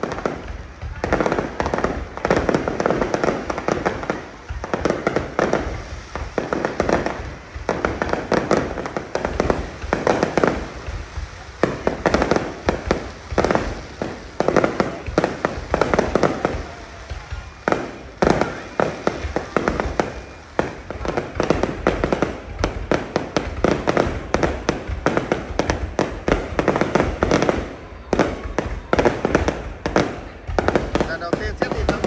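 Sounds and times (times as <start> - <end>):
fireworks booming and cracking: 0.0 - 32.0.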